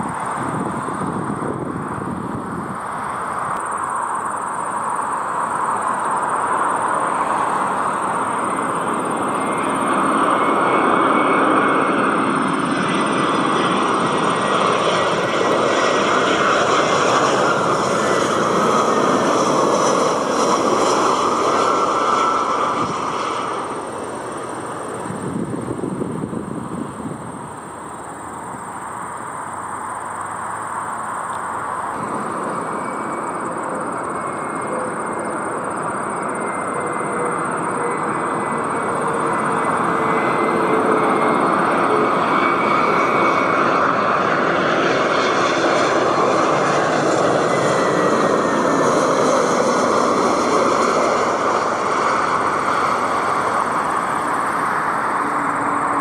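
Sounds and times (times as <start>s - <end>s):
jet airliner passing: 0.0s - 56.0s.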